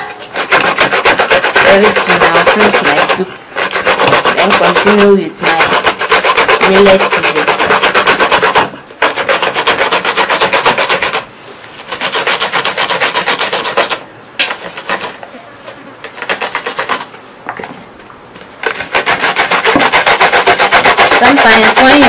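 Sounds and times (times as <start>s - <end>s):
hand grater rasping: 0.3s - 11.2s, 11.8s - 15.2s, 16.0s - 17.1s, 18.6s - 22.0s.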